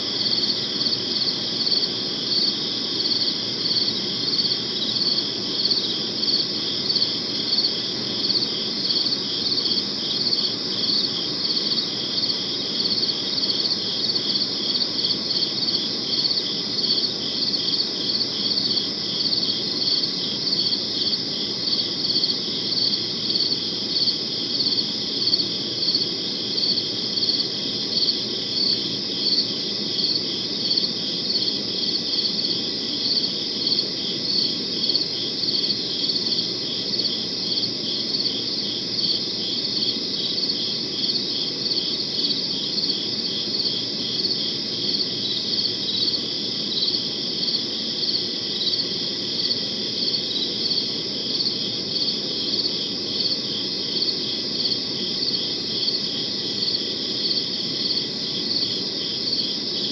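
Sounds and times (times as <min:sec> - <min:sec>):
crickets chirping: 0:00.0 - 0:59.9
low steady background hiss: 0:00.0 - 0:59.9.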